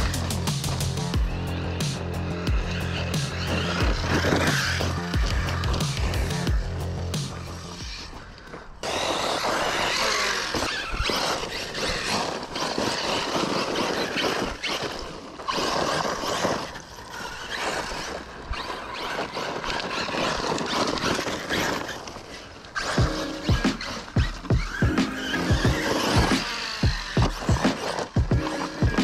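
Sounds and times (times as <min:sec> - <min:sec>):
electric motor whine: 0:00.0 - 0:29.0
tyres on loose dirt: 0:00.0 - 0:29.0.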